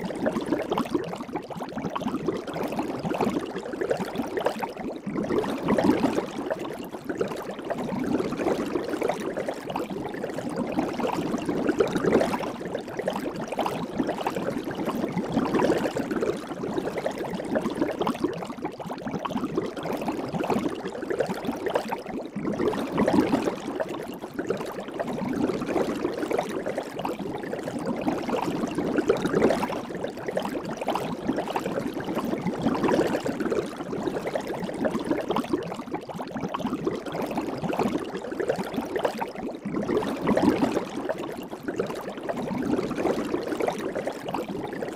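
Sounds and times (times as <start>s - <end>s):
soap bubbles fizzing and popping: 0.0s - 44.9s.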